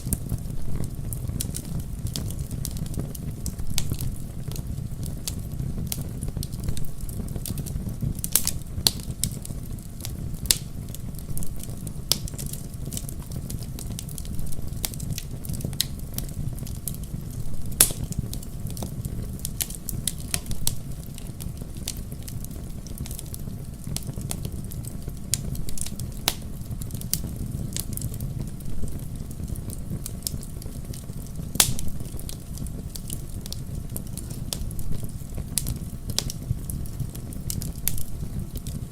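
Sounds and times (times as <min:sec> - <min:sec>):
fire low rumble: 0:00.0 - 0:38.9
wood fire crackling and popping: 0:00.0 - 0:38.9.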